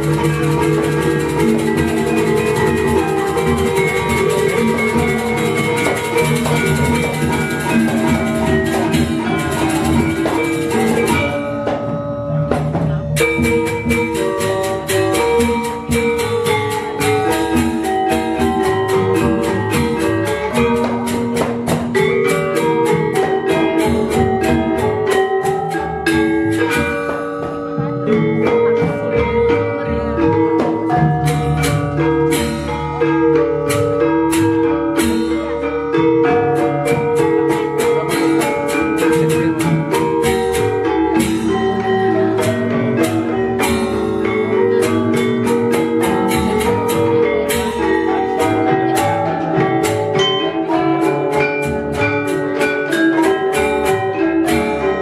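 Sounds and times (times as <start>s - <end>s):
metallophone ensemble playing: 0.0s - 55.0s.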